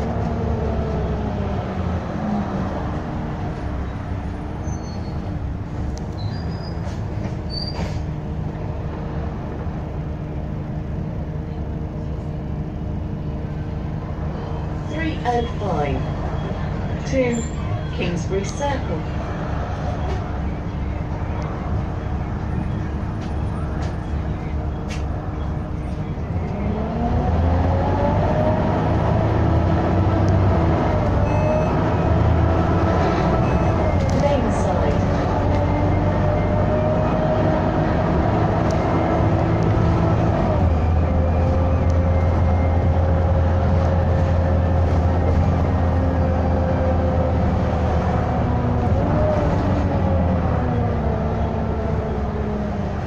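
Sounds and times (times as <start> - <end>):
bus engine rumbling: 0.0 - 53.0.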